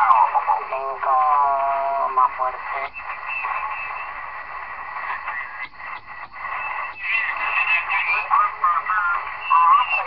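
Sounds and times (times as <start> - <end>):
radio static and hiss: 0.0 - 10.0
warbling radio voices: 0.0 - 10.0.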